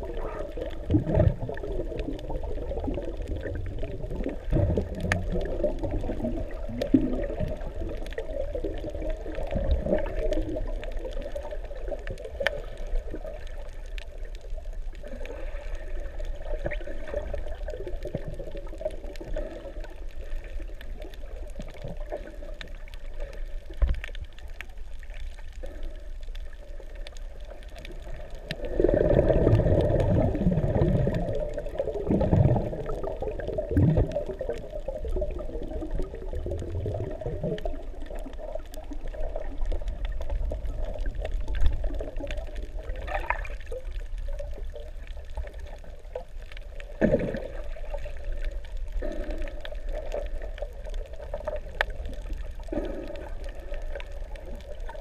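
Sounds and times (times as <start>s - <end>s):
underwater bubbling: 0.0s - 55.0s
faint clicks: 0.1s - 55.0s.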